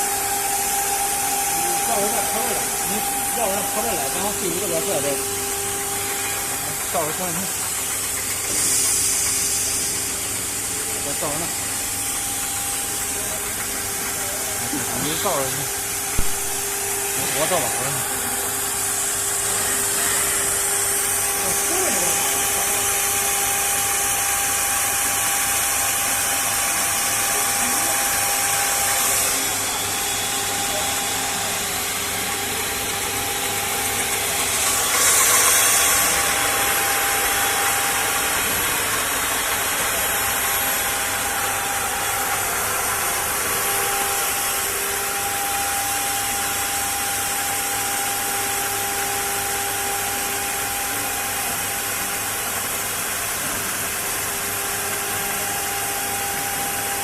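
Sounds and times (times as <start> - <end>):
machine hiss: 0.0 - 57.0
router spindle whine: 0.0 - 57.0.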